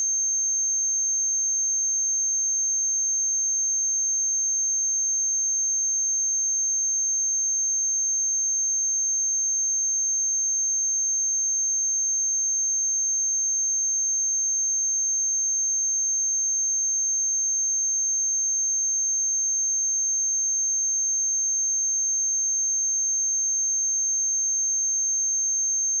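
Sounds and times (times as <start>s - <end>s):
high-pitched sine test tone: 0.0s - 26.0s.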